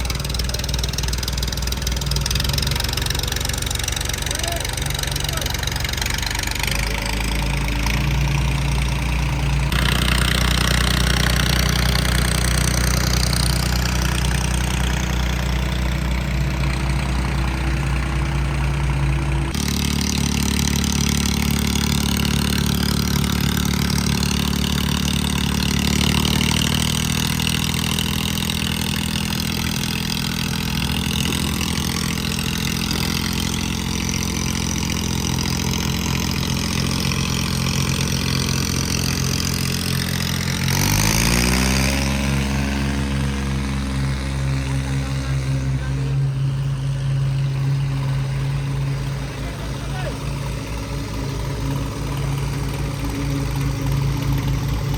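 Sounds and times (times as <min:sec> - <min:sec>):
diesel tractor engines running: 0:00.0 - 0:54.9.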